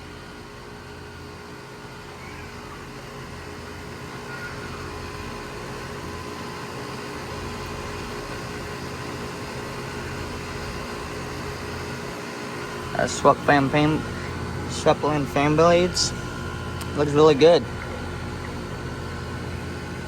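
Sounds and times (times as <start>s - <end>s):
heat pump motor and fan humming: 0.0s - 20.0s.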